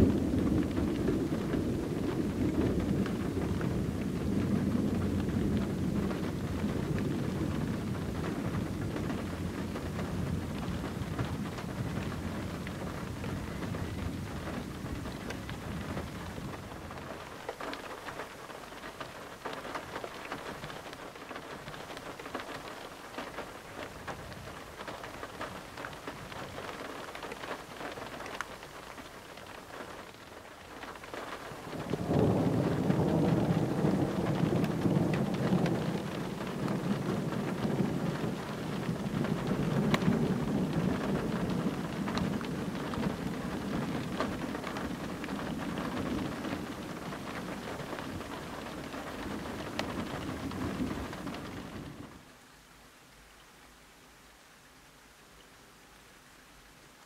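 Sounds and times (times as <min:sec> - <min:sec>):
thunder rumbling: 0:00.0 - 0:52.2
heavy rain pattering: 0:00.0 - 0:57.0.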